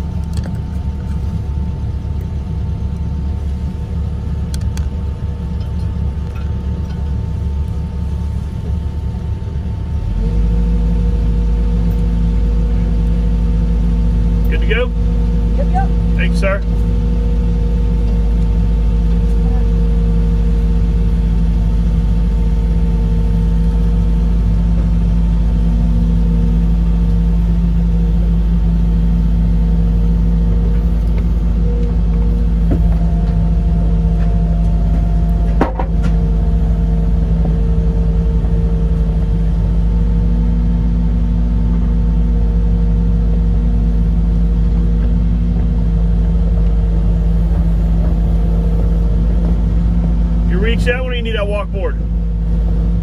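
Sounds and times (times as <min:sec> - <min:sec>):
excavator engine and hydraulics: 0:00.0 - 0:53.0
high whine: 0:00.0 - 0:53.0.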